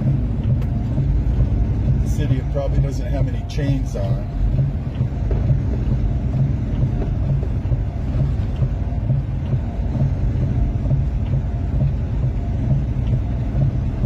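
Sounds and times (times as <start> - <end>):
engine and road rumble in cab: 0.0 - 14.0.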